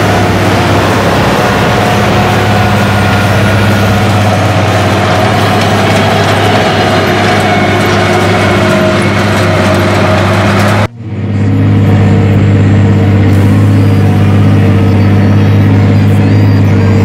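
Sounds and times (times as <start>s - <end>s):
tractor engine drone: 0.0s - 17.0s.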